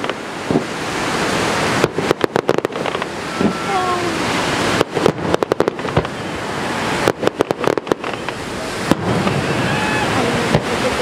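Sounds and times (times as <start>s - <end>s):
fireworks exploding: 0.0s - 11.0s.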